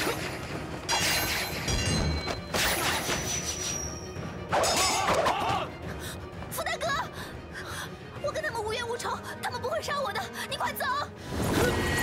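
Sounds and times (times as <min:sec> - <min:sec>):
dramatic music: 0:00.0 - 0:12.0.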